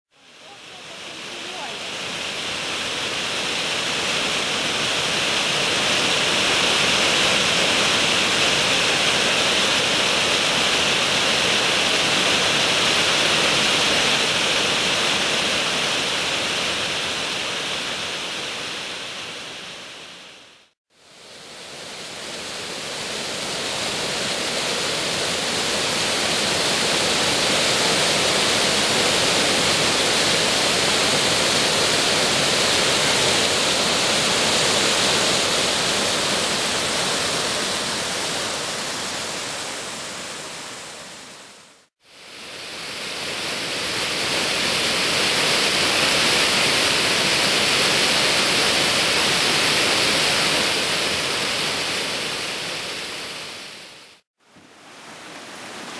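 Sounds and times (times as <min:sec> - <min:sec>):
water rushing over stone ledge: 0:00.2 - 0:20.1, 0:21.2 - 0:55.9.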